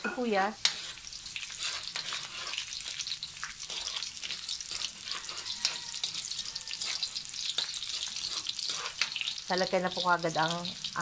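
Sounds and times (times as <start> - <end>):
onion sizzling in hot oil: 0.0 - 11.0
spatula stirring in wok: 0.2 - 11.0.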